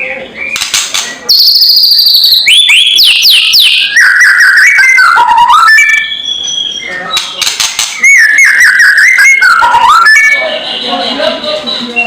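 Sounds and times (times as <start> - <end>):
bird singing whistled notes: 0.1 - 10.5.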